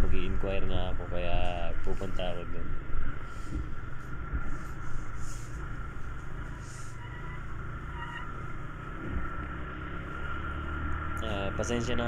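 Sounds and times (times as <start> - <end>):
road and wind noise: 0.0 - 12.0
scooter engine rumbling: 0.0 - 12.0
thin steady whine: 0.0 - 12.0.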